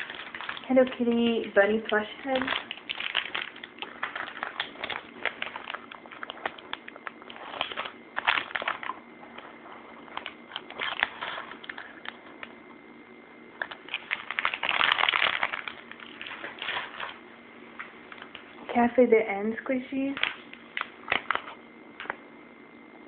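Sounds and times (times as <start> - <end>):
plastic packaging crinkling: 0.0 - 12.8, 13.5 - 18.9, 20.0 - 22.2.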